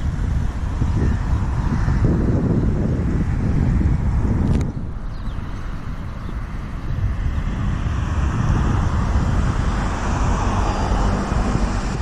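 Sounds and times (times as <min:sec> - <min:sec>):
road traffic rumble: 0:00.0 - 0:12.0
vehicle passing: 0:00.0 - 0:12.0.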